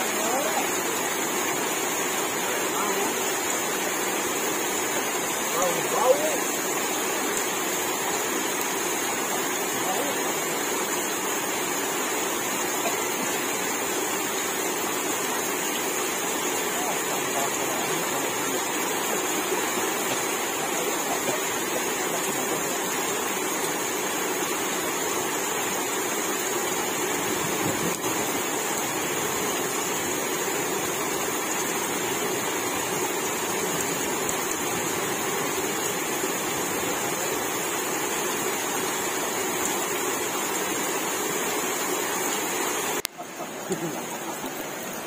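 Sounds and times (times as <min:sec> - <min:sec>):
stream rushing: 0:00.0 - 0:45.0.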